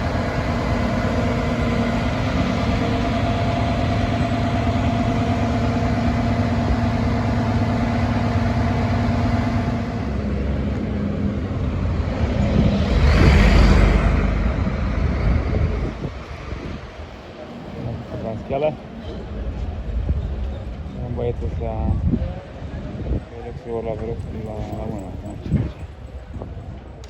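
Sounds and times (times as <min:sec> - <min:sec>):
diesel engine whining: 0:00.0 - 0:26.8
rushing rumble: 0:00.0 - 0:27.0.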